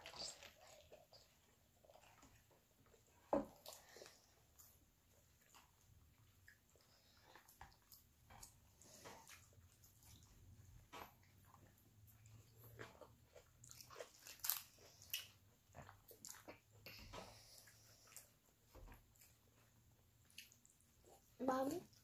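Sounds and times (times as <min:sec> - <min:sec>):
chewing crunchy food: 0:00.0 - 0:22.0.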